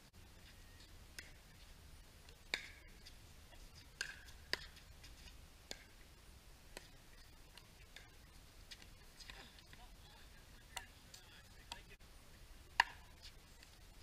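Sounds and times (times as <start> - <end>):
paddles hitting pickleball: 0.4 - 6.1, 6.7 - 12.0, 12.7 - 13.8.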